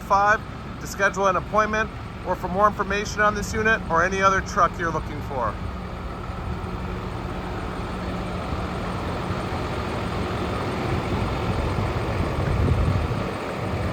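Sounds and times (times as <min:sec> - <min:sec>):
diesel truck engine idling: 0:00.0 - 0:13.9.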